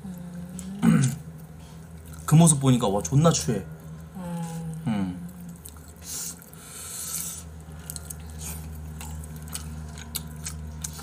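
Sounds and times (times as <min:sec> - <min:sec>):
low steady hum: 0:00.0 - 0:11.0
person chewing food: 0:00.1 - 0:02.3, 0:03.8 - 0:11.0.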